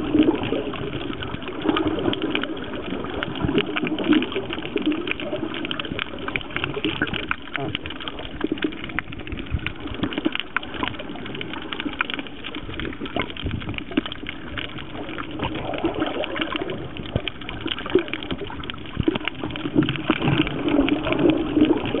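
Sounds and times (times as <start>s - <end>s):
small clicks and crackles: 0.0s - 22.0s
water sloshing and bubbling: 0.0s - 22.0s.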